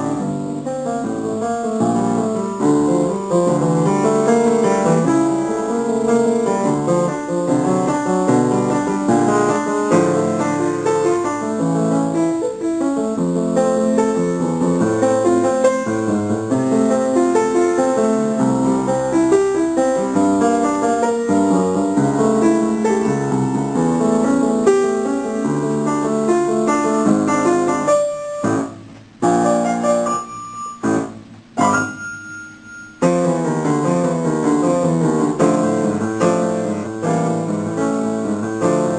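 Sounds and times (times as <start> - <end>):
solo piano: 0.0 - 38.9.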